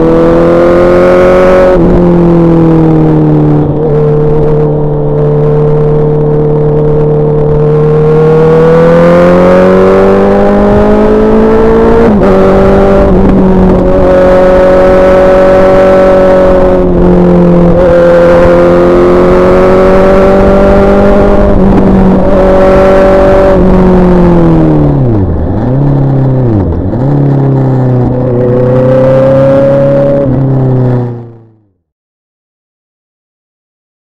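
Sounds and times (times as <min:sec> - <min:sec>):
motorcycle engine revving: 0:00.0 - 0:31.7.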